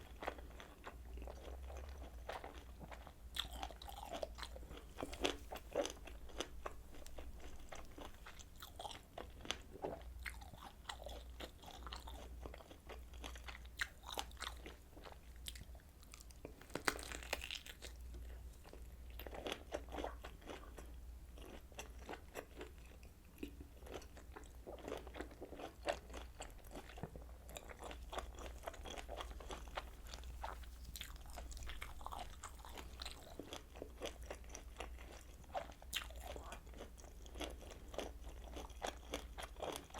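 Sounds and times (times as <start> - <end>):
biting and chewing sausage: 0.0 - 39.9.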